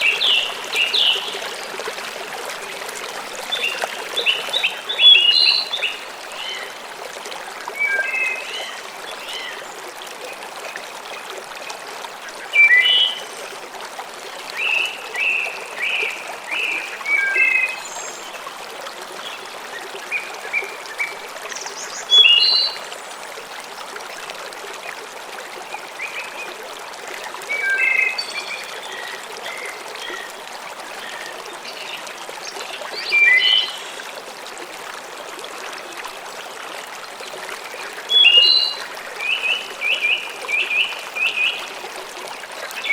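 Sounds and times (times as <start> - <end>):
stream rushing: 0.0 - 42.9.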